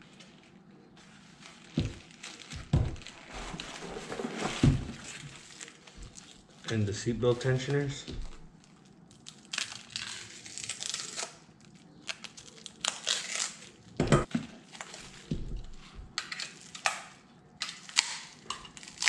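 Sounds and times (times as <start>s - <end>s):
plastic wrapping crinkling: 0.0s - 14.0s, 14.6s - 19.0s.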